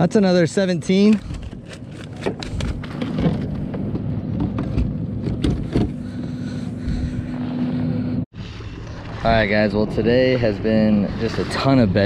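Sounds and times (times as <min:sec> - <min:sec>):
steady low hum: 0:01.4 - 0:11.4.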